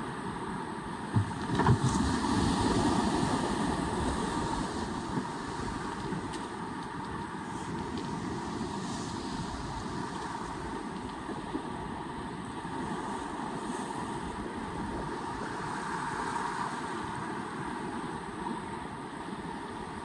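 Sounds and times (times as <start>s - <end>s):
boat engine: 0.0s - 20.0s
water rushing: 0.0s - 20.0s
wind: 0.0s - 20.0s.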